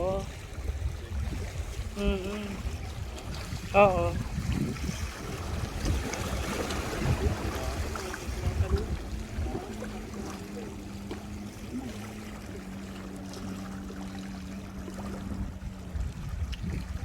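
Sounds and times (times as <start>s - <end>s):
steady low hum: 0.0s - 17.0s
water lapping along shore: 0.0s - 17.0s
wind on microphone: 0.0s - 17.0s.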